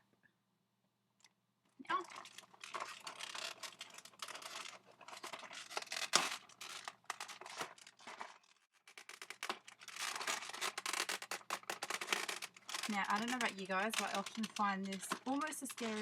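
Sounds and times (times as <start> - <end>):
plastic wrap crinkling and tearing: 1.9 - 16.0.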